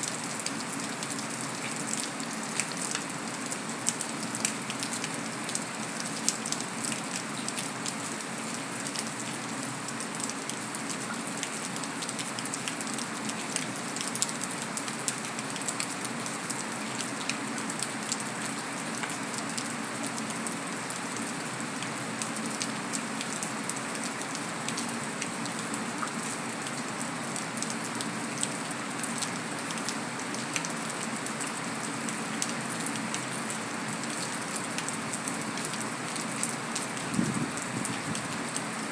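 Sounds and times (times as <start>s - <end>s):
heavy rain on concrete: 0.0s - 38.9s.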